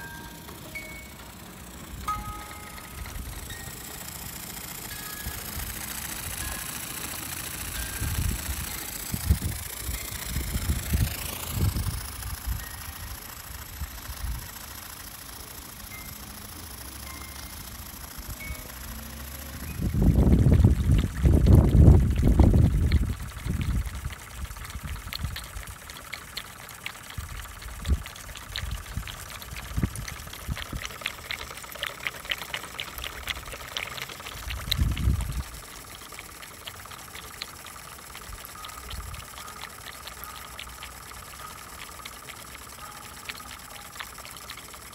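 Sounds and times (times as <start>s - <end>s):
water stream splashing into a bowl: 0.0s - 44.9s.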